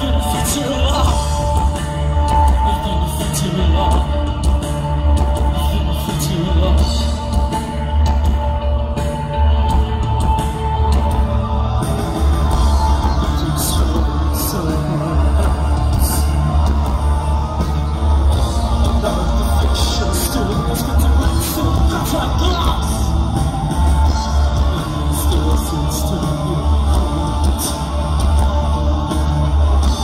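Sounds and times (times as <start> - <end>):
heavy pulsing bass: 0.0 - 30.0
person singing: 0.0 - 30.0
post-punk band playing live: 0.0 - 30.0.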